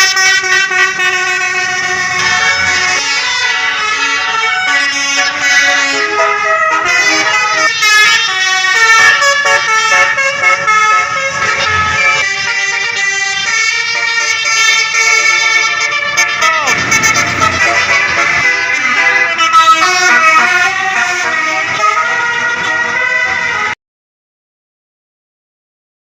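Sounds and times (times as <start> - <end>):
multi-tone bus air horn tune: 0.0 - 23.8.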